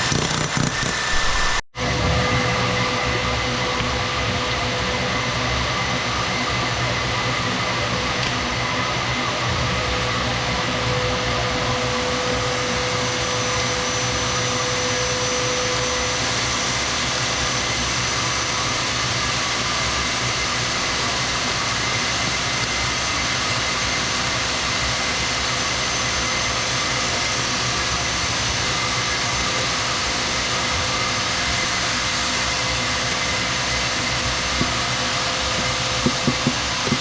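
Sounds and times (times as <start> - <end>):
power tool running on concrete: 0.0 - 37.0
whining tones: 0.0 - 37.0.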